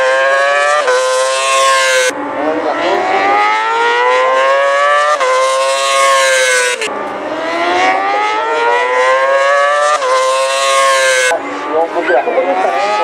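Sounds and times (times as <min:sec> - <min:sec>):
racing motorcycle accelerating: 0:00.0 - 0:13.0.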